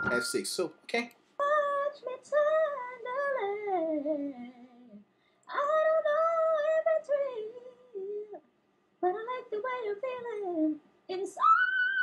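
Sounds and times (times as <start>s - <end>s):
woman singing: 1.4s - 8.4s, 9.0s - 12.0s.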